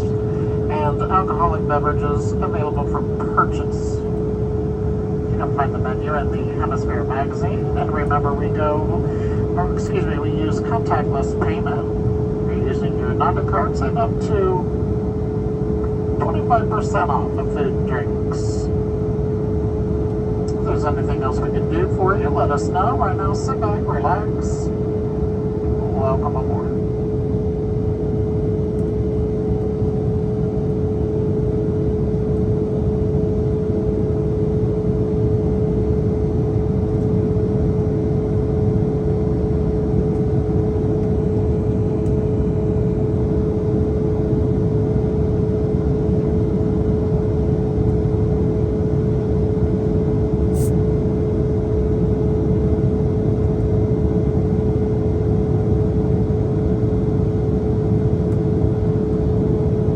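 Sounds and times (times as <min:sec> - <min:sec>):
airliner cabin noise: 0:00.0 - 0:51.8.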